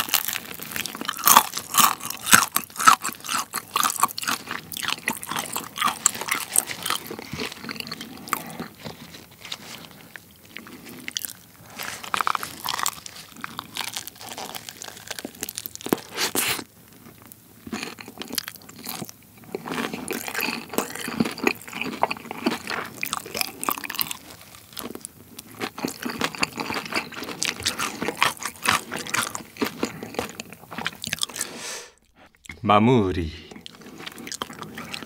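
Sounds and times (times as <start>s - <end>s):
fried chicken crunching: 0.0s - 32.6s, 33.5s - 35.0s.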